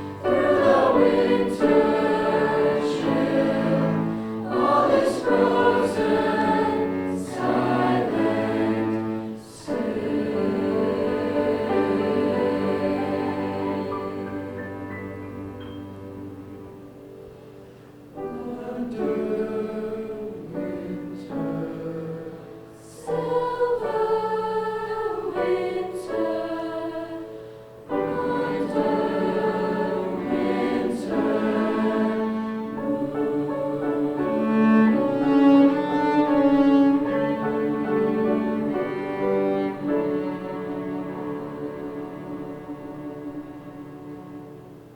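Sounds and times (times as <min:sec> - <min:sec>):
choir singing: 0:00.0 - 0:17.0, 0:18.1 - 0:44.9.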